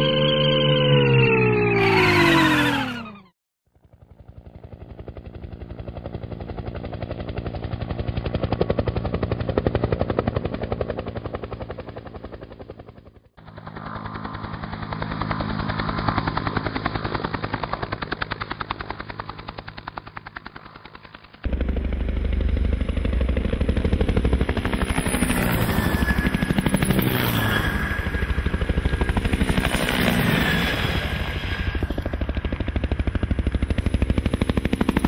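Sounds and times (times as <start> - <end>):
helicopter rotor blades chopping: 1.7 - 35.0.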